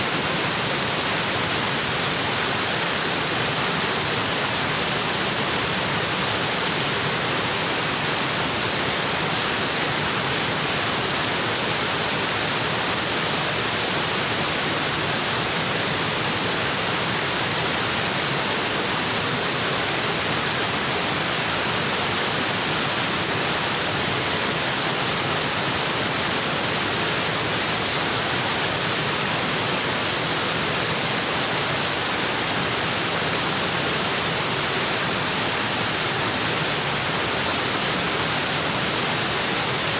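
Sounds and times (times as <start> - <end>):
waterfall rushing onto rocks: 0.0 - 39.9.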